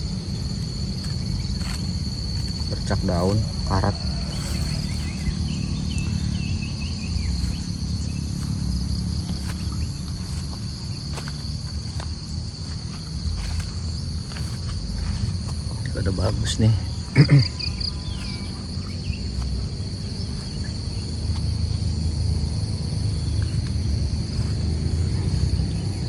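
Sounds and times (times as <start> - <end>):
insects trilling: 0.0 - 26.0
low steady rumble: 0.0 - 26.0.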